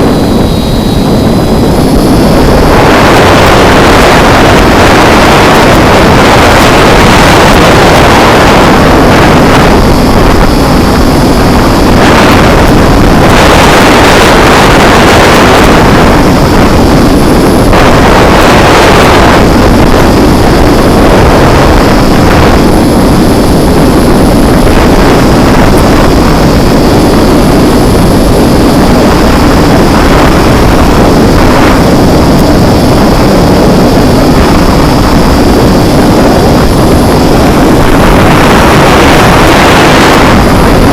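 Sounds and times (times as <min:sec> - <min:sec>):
drone motors whining: 0:00.0 - 0:40.9
wind rush on microphone: 0:00.0 - 0:40.9.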